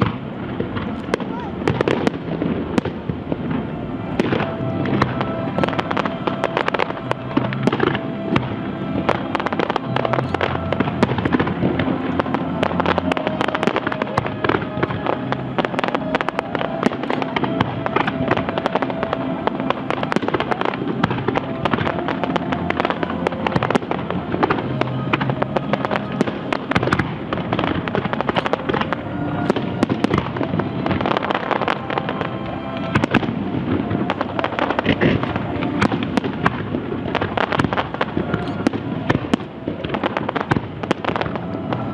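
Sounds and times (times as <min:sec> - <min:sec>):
fireworks bursts and crackles: 0:00.0 - 0:41.9
music playing: 0:00.0 - 0:41.9.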